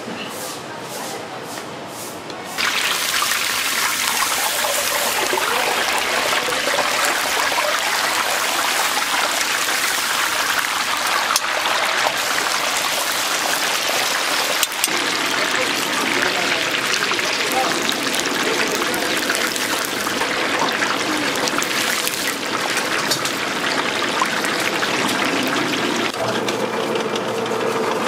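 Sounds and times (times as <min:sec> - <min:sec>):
chicken sizzling in hot oil: 0:02.6 - 0:28.0.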